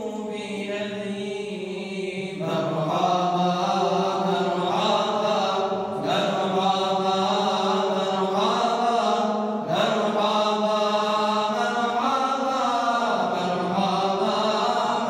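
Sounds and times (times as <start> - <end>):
men singing a cappella hymn: 0.0 - 15.0.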